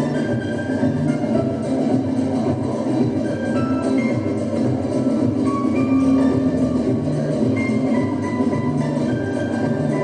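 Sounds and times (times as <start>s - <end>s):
samba music: 0.0s - 10.0s.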